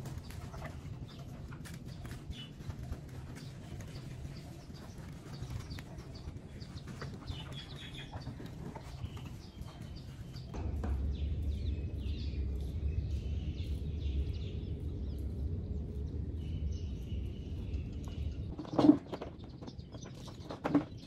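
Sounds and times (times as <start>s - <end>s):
steady low rumble: 0.0s - 18.6s
small birds chirping: 0.0s - 21.0s.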